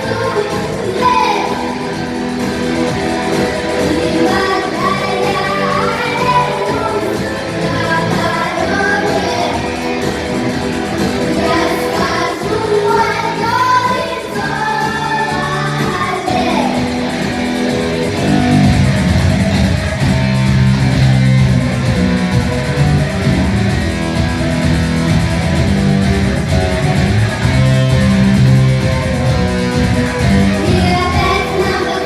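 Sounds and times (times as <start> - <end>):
bass line: 0.0 - 32.0
strummed guitars: 0.0 - 32.0.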